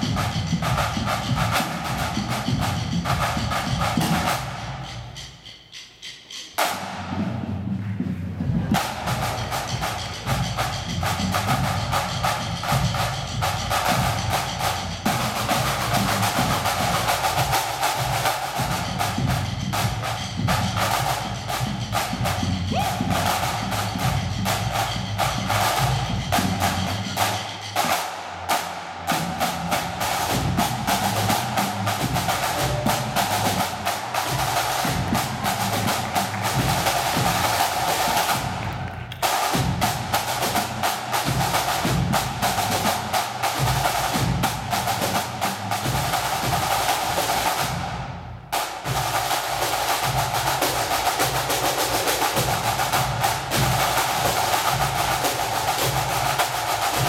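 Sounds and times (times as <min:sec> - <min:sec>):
deeper drums: 0:00.0 - 0:57.0
snare drum rolls: 0:00.0 - 0:57.0.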